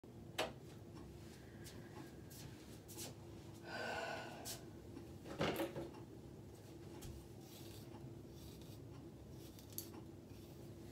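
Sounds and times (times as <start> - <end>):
faint steady hum: 0.1 - 10.9.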